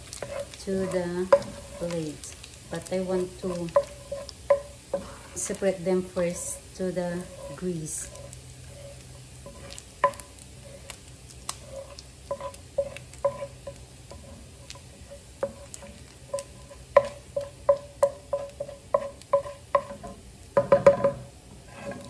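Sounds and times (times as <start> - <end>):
grease sizzling: 0.0 - 22.0
spatula knocking on frying pan: 0.1 - 2.0, 2.8 - 5.6, 7.2 - 11.0, 11.7 - 22.0.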